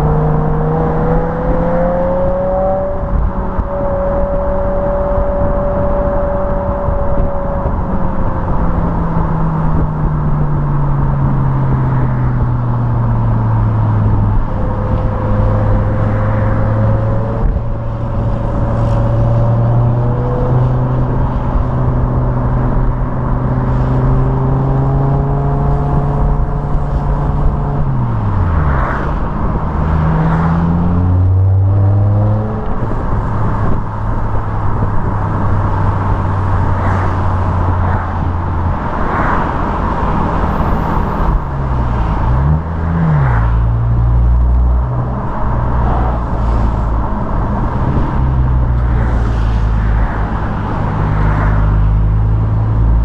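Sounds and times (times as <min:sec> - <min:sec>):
car engine exhaust: 0:00.0 - 0:53.0
road and wind noise: 0:00.0 - 0:53.0.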